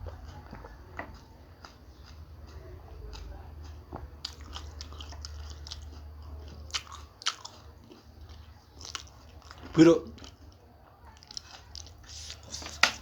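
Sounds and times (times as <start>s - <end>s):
person chewing crunchy food: 0.0s - 10.6s, 11.2s - 13.0s.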